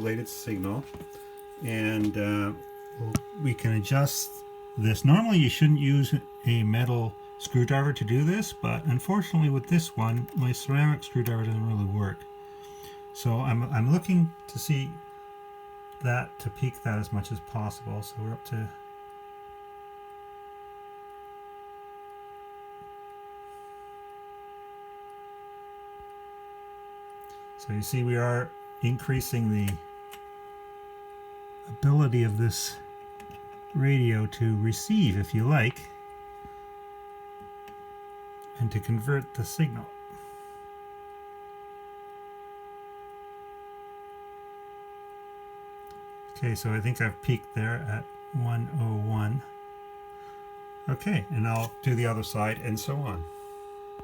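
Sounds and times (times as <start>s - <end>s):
buzzy radio test tone: 0.0s - 54.0s.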